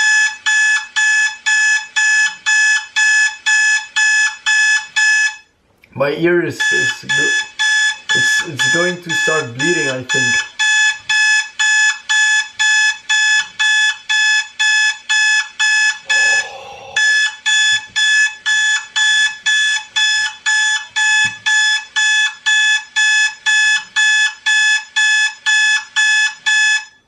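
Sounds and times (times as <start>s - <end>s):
alarm clock beeping rapidly: 0.0s - 5.4s, 6.5s - 27.0s.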